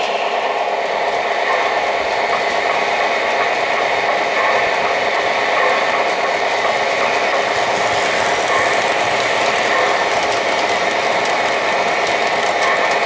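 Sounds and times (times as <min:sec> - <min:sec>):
model train clattering: 0:01.4 - 0:13.0
faint rail clicks: 0:02.3 - 0:13.0.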